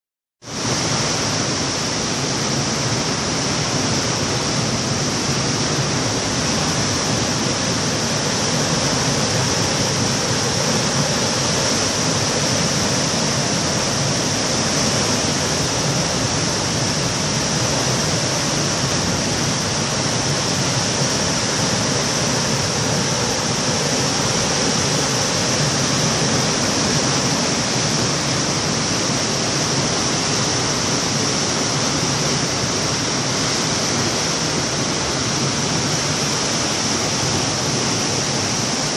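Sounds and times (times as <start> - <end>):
water rushing through sluice gates: 0.5 - 38.9.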